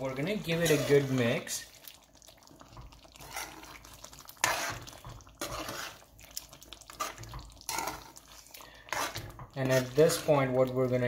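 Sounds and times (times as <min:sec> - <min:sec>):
spoon stirring thick sauce in pan: 0:00.0 - 0:11.0.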